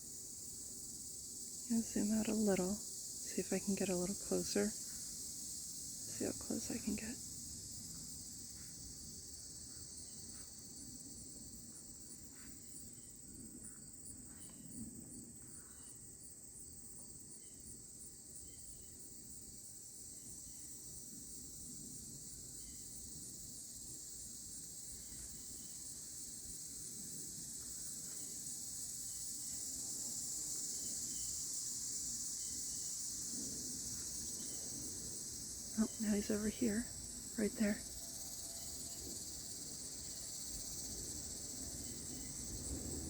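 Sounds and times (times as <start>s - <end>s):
insect chorus buzzing trill: 0.0s - 43.0s.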